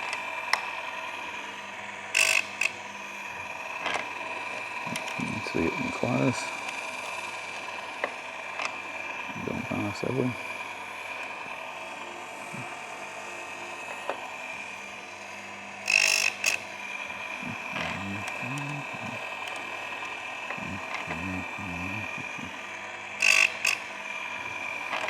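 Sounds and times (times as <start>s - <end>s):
grinding wheel rasping on chain: 0.0s - 25.0s
grinding wheel whine: 0.0s - 25.0s.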